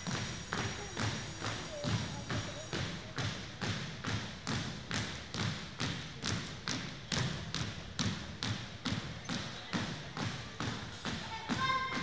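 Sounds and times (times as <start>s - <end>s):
marching steps on wooden floor: 0.0s - 12.0s.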